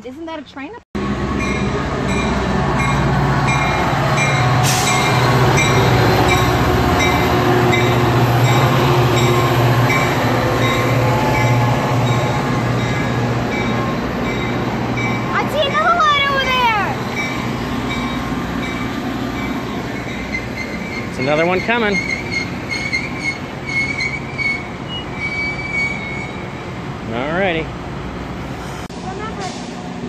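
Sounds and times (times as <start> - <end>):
locomotive engine drone: 1.0 - 30.0.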